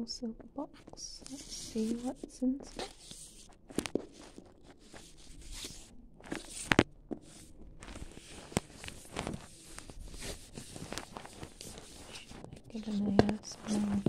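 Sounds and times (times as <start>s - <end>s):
wrapping paper rustling: 1.0s - 14.0s.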